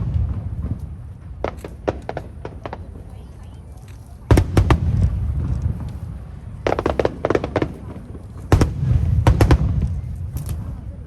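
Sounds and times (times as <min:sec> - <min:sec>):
low rolling rumble: 0:00.0 - 0:03.6, 0:04.2 - 0:11.0
fireworks cracking: 0:00.0 - 0:11.0.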